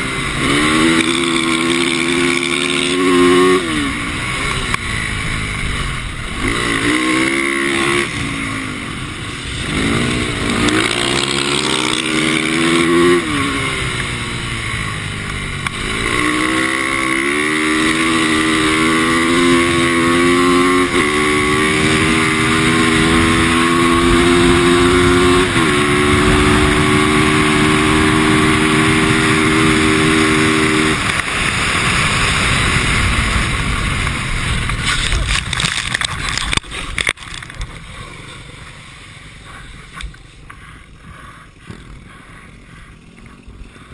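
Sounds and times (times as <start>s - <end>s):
dirt bike engine accelerating: 0.0s - 43.9s.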